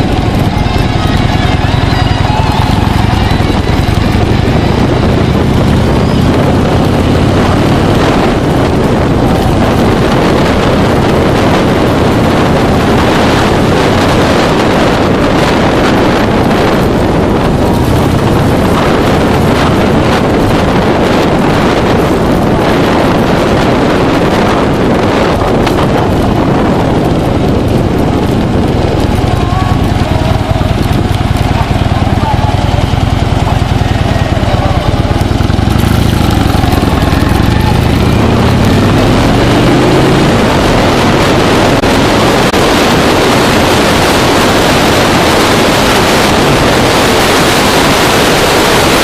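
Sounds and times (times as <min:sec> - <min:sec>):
motorcycle engine running: 0:00.0 - 0:49.0
wind noise on microphone: 0:00.0 - 0:49.0.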